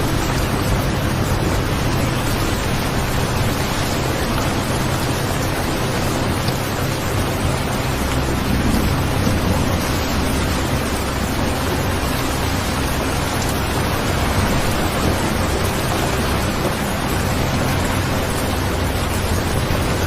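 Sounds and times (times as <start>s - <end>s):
low rumble: 0.0s - 20.0s
steady rain: 0.0s - 20.0s.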